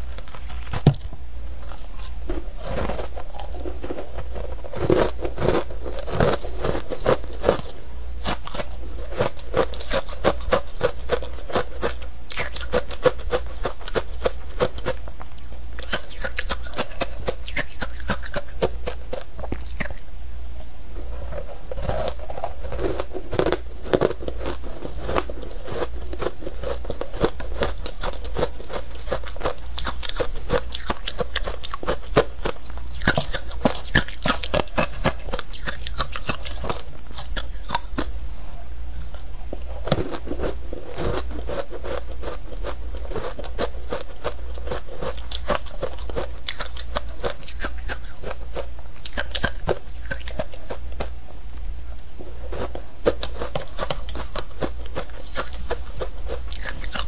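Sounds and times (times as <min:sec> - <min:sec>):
steady low hum: 0:00.0 - 0:57.0
crunching and chewing ice: 0:01.6 - 0:20.0, 0:21.2 - 0:38.4, 0:39.6 - 0:51.2, 0:51.9 - 0:57.0.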